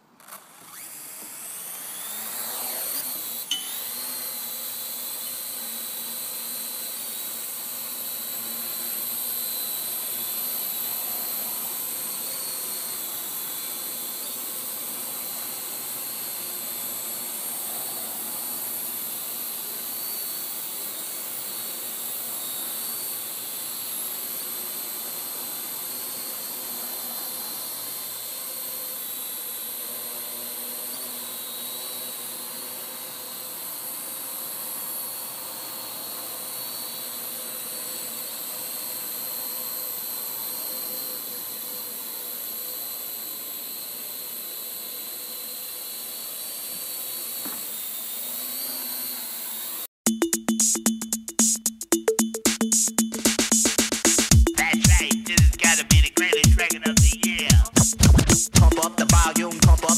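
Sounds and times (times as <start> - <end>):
drone motors whining: 0.0 - 49.9.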